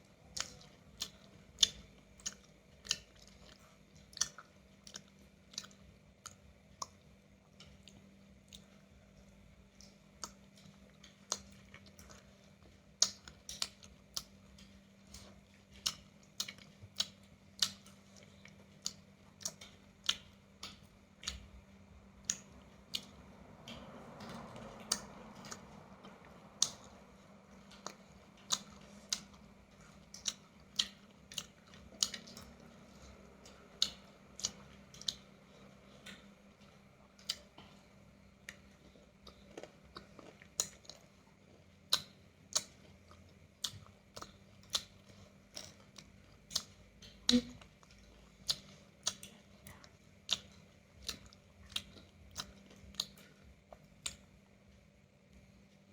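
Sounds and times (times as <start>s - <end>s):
crunchy chewing: 0.0s - 54.6s
faint steady hum: 0.0s - 55.9s.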